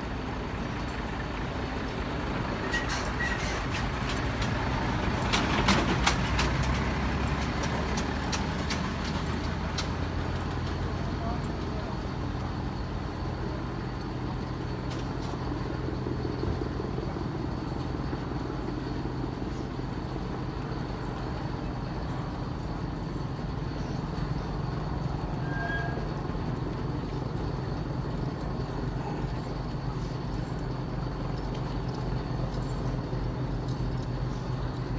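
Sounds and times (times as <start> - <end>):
low engine rumble: 0.0 - 34.9.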